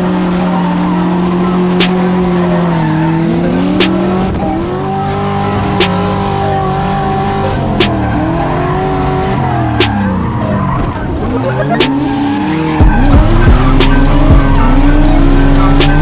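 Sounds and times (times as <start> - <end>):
background music: 0.0 - 16.0
car engine at high revs: 0.0 - 16.0.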